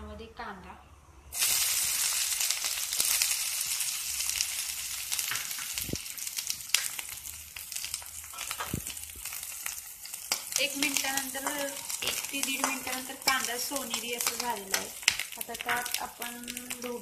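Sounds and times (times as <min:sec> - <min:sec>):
oil crackling and popping: 0:01.3 - 0:17.0
onions sizzling in hot oil: 0:01.3 - 0:17.0.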